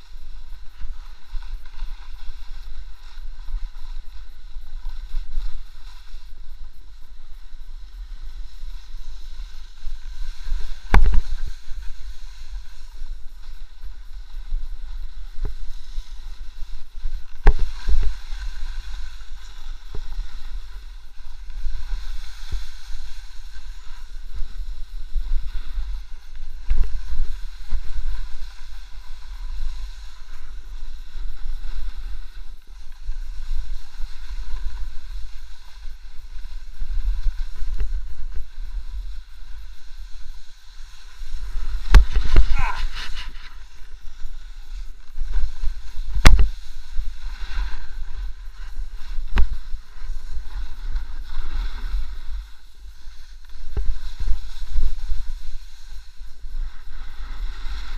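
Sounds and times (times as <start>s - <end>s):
snow sliding hiss: 0.0s - 57.9s
wind rumbling on microphone: 0.0s - 57.9s.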